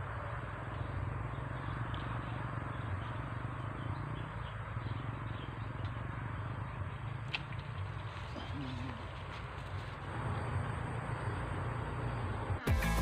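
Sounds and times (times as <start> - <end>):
insects chirping: 0.0 - 12.6
birds chirping: 0.0 - 13.0.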